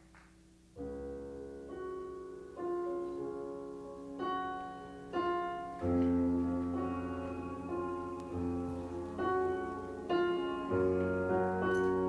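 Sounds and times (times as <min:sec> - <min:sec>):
piano keyboard chords: 0:00.6 - 0:12.0.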